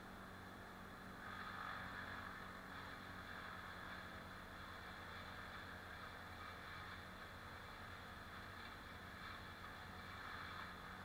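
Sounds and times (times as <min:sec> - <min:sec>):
distant engine drone: 0:00.0 - 0:11.0.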